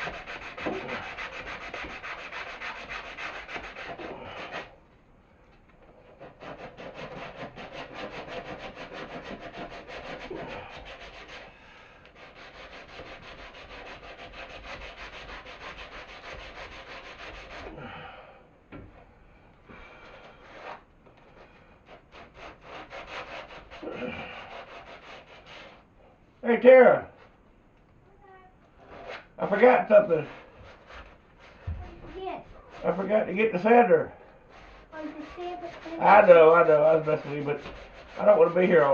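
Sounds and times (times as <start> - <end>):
wood being sanded by hand: 0.0 - 4.7, 6.0 - 17.9, 20.0 - 25.8, 28.9 - 33.9, 34.5 - 38.9.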